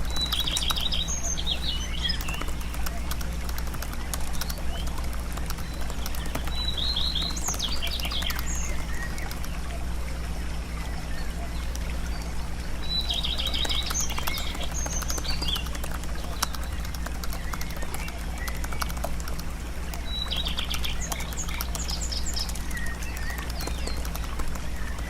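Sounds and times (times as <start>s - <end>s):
light clicks: 0.0s - 10.2s, 10.8s - 25.0s
low hum: 0.0s - 25.0s
small birds chirping: 0.0s - 25.0s.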